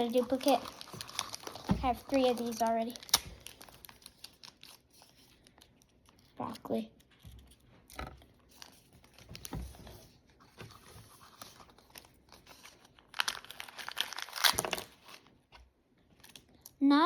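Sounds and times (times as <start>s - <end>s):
plastic packaging crinkling: 0.0s - 7.6s, 8.2s - 10.0s, 10.7s - 15.3s.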